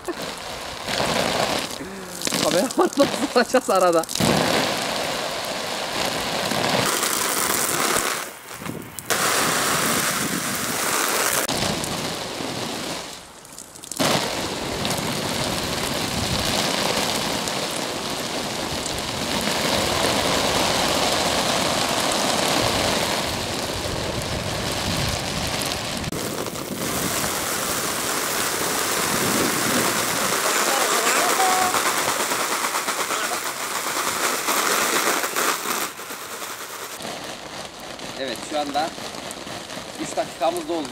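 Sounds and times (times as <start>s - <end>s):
hose spray on tent fabric: 0.0s - 40.9s.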